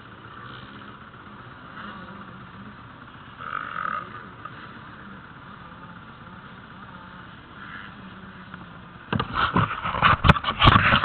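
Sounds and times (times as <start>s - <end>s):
distant dirt bikes revving: 0.0s - 11.0s.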